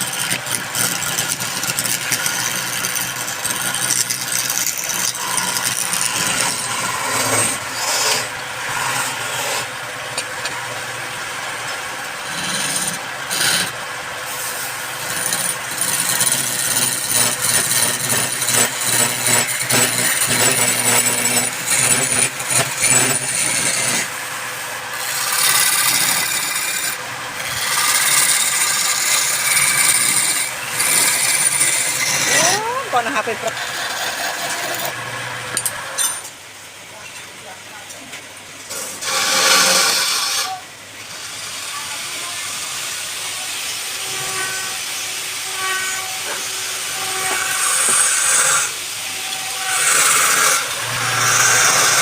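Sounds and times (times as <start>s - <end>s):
power tool rasping wood: 0.0s - 36.0s, 38.7s - 42.7s, 43.8s - 52.0s.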